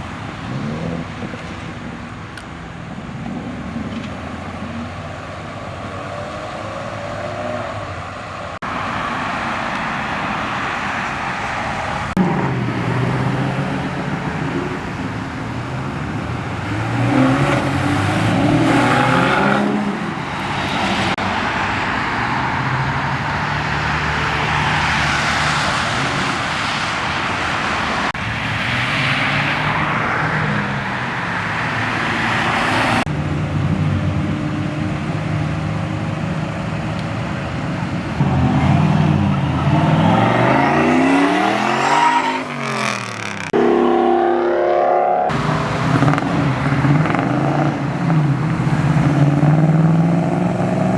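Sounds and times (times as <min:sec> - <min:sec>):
car engines revving and accelerating: 0:00.0 - 0:50.9.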